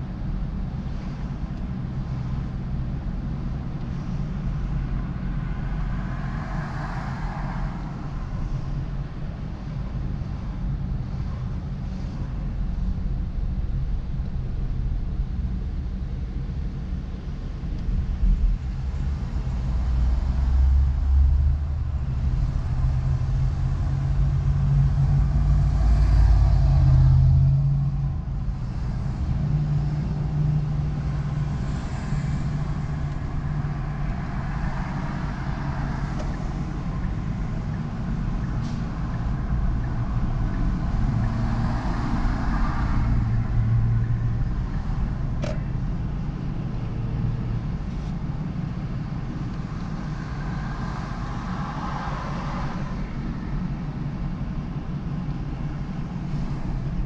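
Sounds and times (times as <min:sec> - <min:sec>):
car engine and road rumble: 0:00.0 - 0:57.0
traffic noise: 0:00.0 - 0:57.0.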